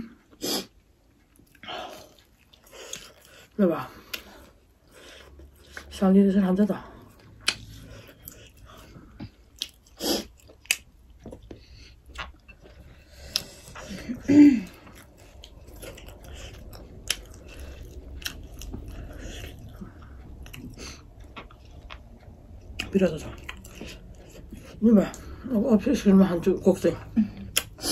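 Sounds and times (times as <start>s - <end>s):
chewing and biting food: 1.1s - 25.4s.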